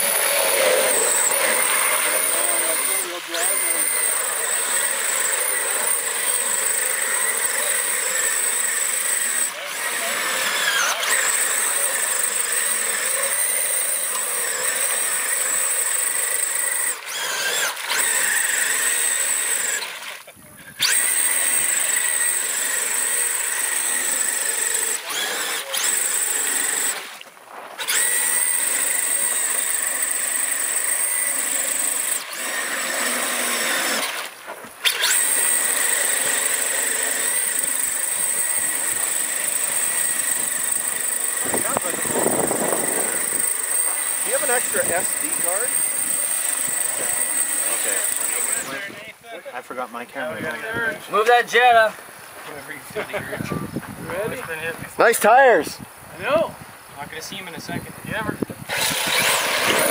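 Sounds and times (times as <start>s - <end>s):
electric motor whining: 0.0s - 27.2s, 27.8s - 49.1s, 57.6s - 59.9s.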